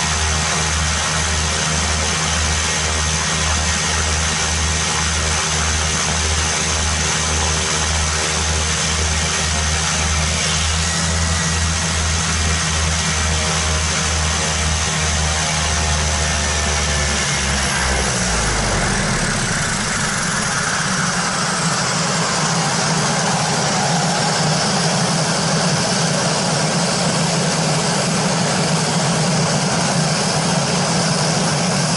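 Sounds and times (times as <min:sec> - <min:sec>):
turboprop engines idling: 0:00.0 - 0:31.9.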